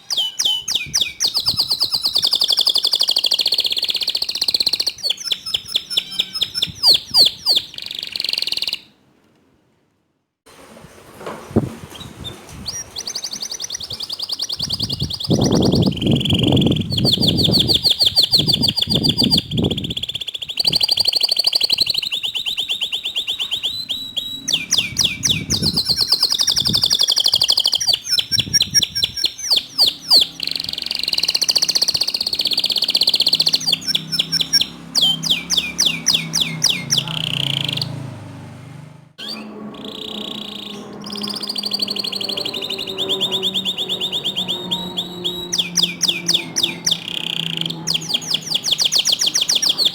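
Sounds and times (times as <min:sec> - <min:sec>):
canary singing trills and chirps: 0:00.0 - 0:08.9, 0:12.6 - 0:38.4, 0:39.2 - 0:49.9.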